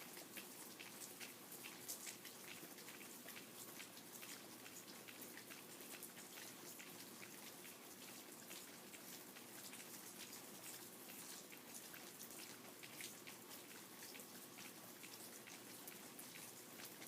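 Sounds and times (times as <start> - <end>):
raindrops ticking on surface: 0.0 - 17.0
steady rain hiss: 0.0 - 17.0.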